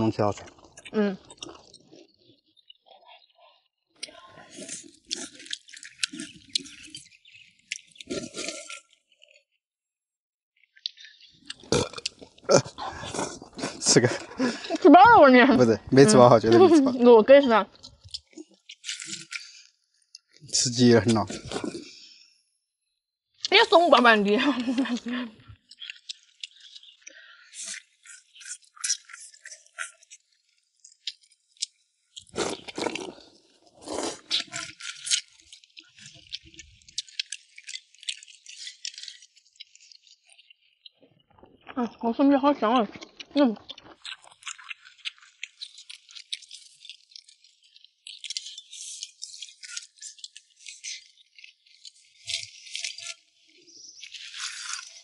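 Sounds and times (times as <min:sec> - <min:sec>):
chewing and crunching food: 0:00.0 - 0:09.6, 0:10.6 - 0:22.4, 0:23.4 - 0:55.0.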